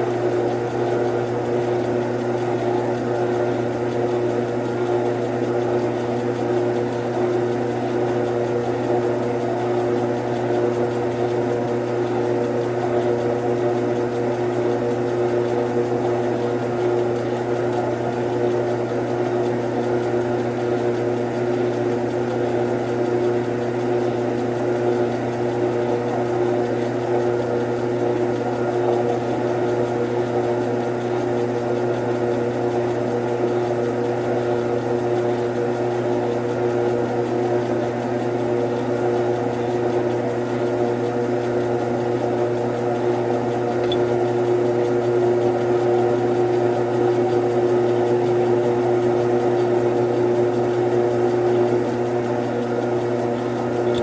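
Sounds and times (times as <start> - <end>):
lathe motor humming: 0.0 - 54.0.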